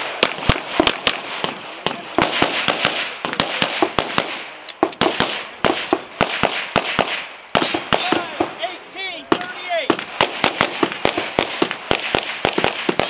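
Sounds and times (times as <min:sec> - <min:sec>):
pistol shots: 0:00.0 - 0:08.6, 0:09.3 - 0:13.0.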